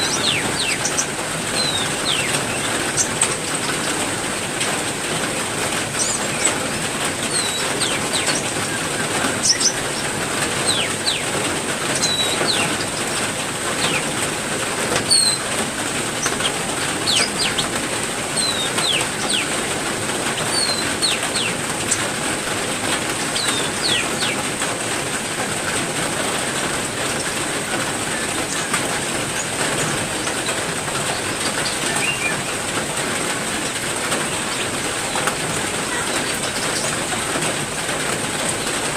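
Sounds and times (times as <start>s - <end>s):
birds chirping: 0.0s - 24.6s, 25.4s - 38.9s
heavy rain falling: 0.0s - 38.9s.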